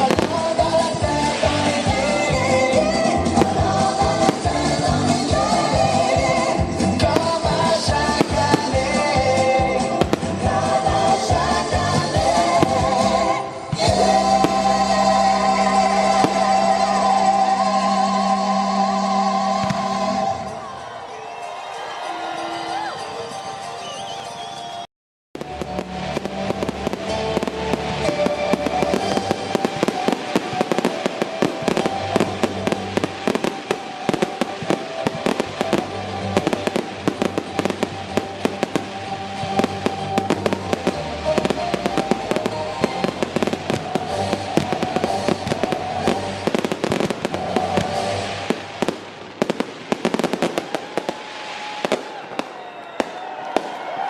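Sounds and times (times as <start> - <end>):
fireworks bangs and crackles: 0.0 - 18.2, 19.5 - 20.2, 25.4 - 54.0
music playing: 0.0 - 50.5.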